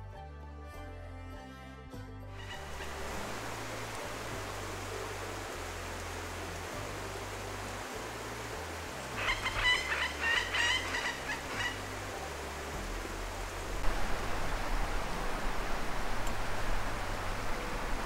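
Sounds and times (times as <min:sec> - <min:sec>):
steady hiss: 0:02.4 - 0:18.0.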